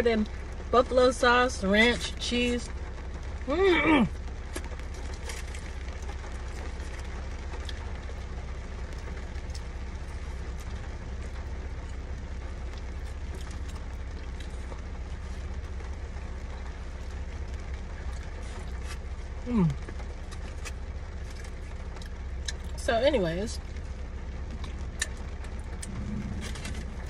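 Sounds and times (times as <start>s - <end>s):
car cabin rumble: 0.0s - 27.0s.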